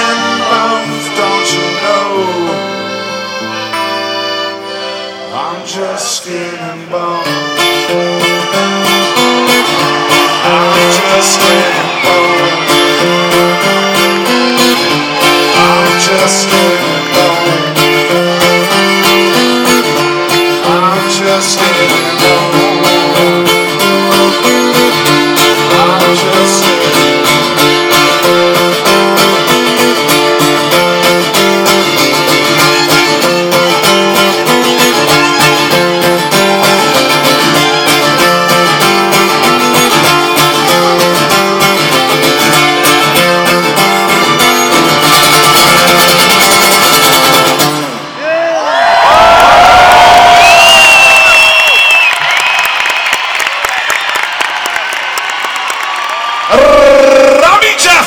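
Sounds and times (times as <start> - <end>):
accordion: 0.0 - 48.2
strummed acoustic guitar: 0.0 - 48.2.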